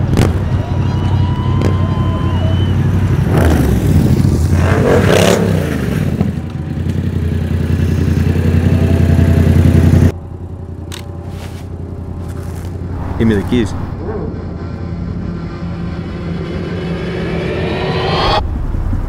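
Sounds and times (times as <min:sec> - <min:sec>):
motorcycle engine revving: 0:02.6 - 0:18.4.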